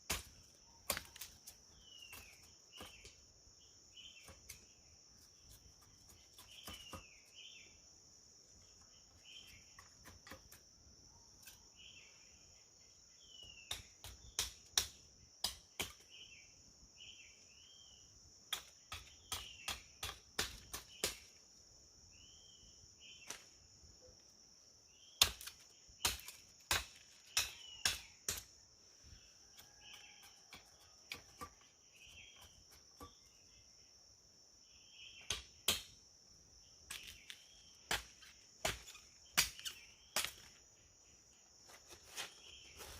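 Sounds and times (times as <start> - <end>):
bird chirping: 0.2 - 14.6, 15.6 - 35.6, 36.5 - 42.9.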